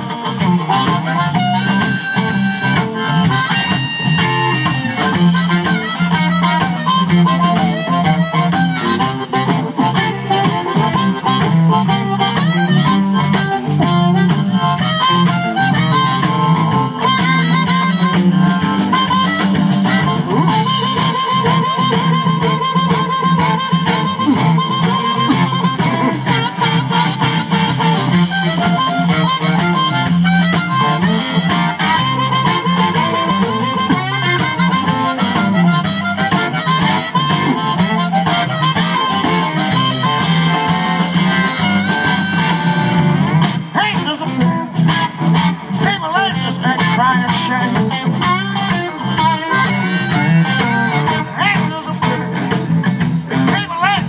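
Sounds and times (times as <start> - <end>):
amplified harmonica: 0.0 - 54.0
drums: 0.0 - 54.0
electric guitar: 0.0 - 54.0.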